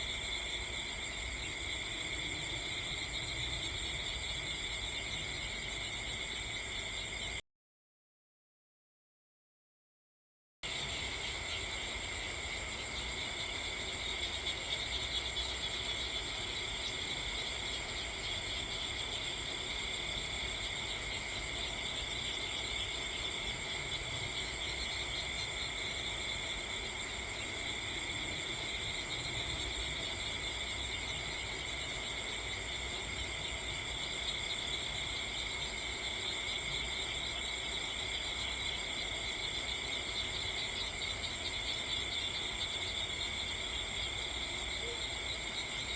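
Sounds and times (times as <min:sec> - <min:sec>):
crickets trilling: 0:00.0 - 0:07.4, 0:10.7 - 0:45.9.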